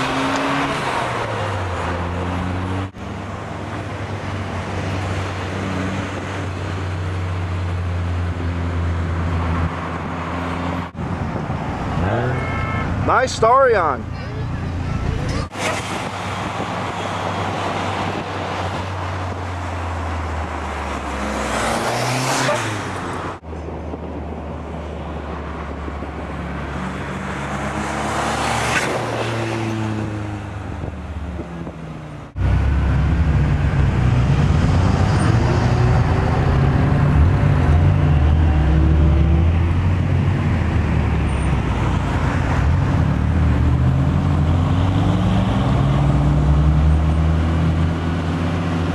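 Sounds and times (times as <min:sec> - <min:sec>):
car engines driving by: 0:00.0 - 0:48.9.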